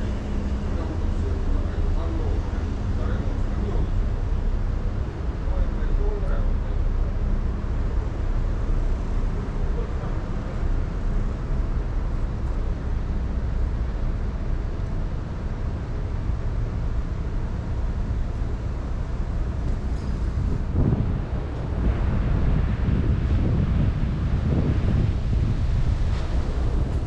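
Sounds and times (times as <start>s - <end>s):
low rumble of city ambience: 0.0s - 27.0s.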